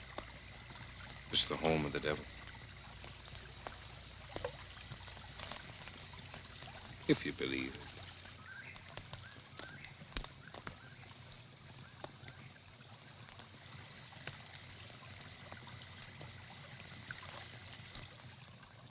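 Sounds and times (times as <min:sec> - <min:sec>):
trickling water: 0:00.0 - 0:18.9.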